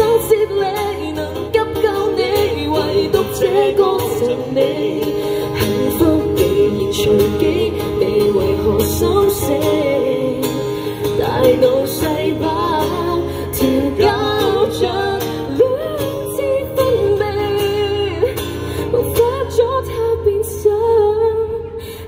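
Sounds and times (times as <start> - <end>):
person singing: 0.0 - 21.8
strummed acoustic guitar: 0.0 - 22.0.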